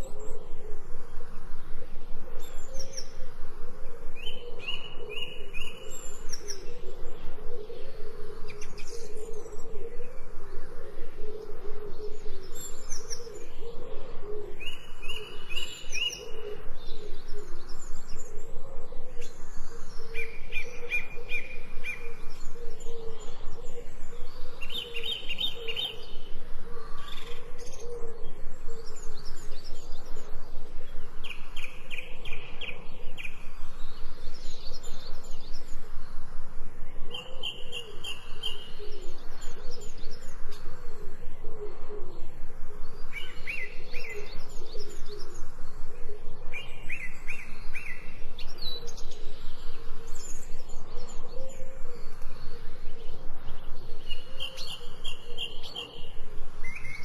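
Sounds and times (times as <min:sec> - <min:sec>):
steady background noise: 0:00.0 - 0:57.0.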